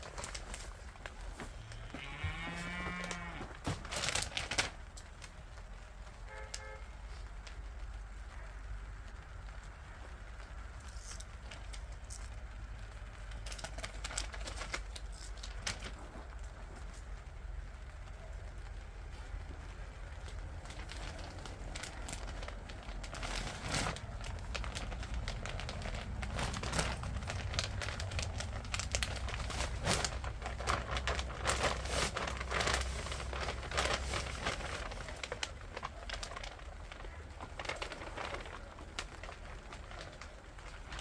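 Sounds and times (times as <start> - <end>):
rustling and crackling: 0.0 - 41.0.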